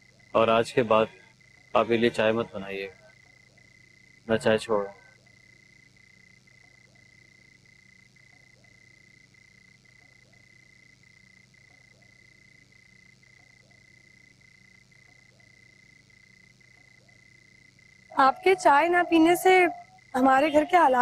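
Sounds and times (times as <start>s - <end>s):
frogs calling: 0.0s - 21.0s.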